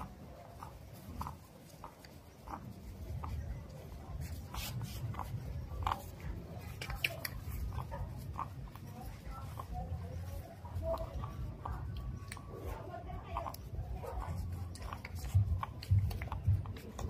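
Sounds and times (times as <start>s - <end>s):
puppies sucking and smacking: 0.0s - 17.0s.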